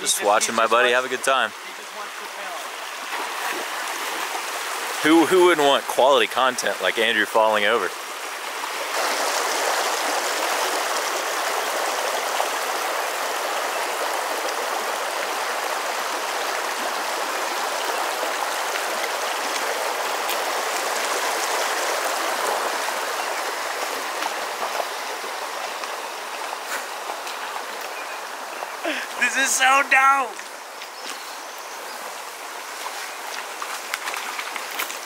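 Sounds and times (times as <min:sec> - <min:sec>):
creek flowing water: 0:00.0 - 0:35.0.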